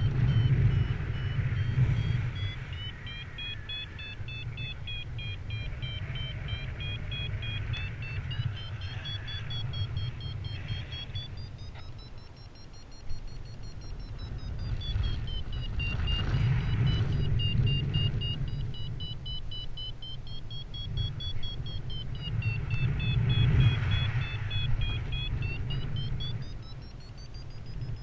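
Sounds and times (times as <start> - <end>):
wind on microphone: 0.0 - 11.8, 13.8 - 19.2, 20.8 - 26.7
variometer rapid beeps: 0.0 - 28.0.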